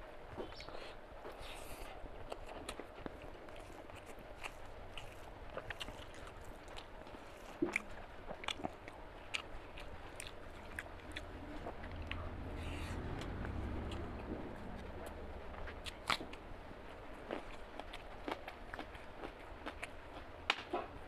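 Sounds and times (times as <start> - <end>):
chewing with mouth clicks: 0.4 - 16.4, 17.2 - 21.0.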